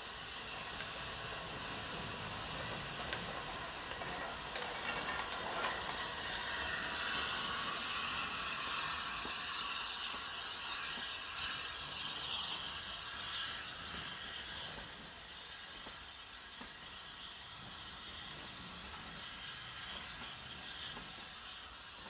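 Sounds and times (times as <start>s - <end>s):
steam hissing: 0.0s - 22.0s
train running noise: 0.0s - 22.0s.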